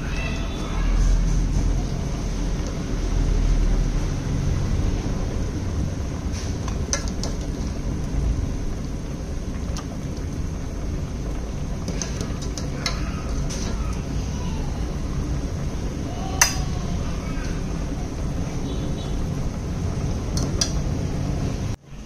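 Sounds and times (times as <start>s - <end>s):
soup boiling in a pot: 0.0s - 22.0s.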